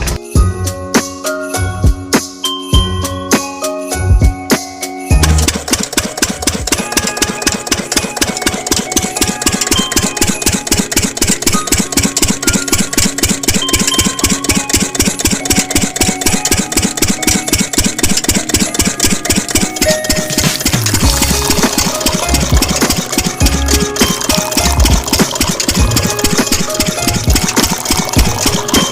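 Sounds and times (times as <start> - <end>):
small diesel engine idling: 5.2 - 28.9.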